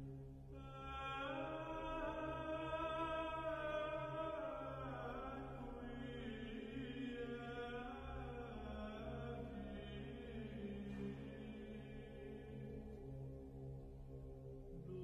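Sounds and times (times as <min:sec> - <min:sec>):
slow chant-like singing: 0:00.0 - 0:15.0
steady low drone: 0:00.0 - 0:15.0.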